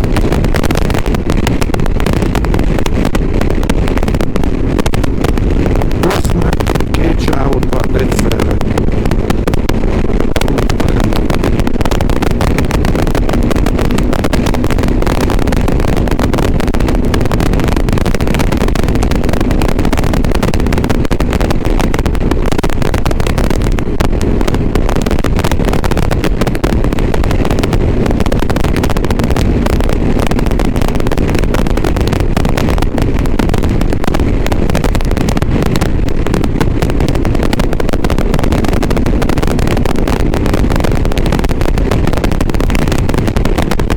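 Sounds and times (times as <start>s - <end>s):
microphone distortion crackle: 0.0s - 43.9s
muffled motorcycle engine rumble: 0.0s - 43.9s.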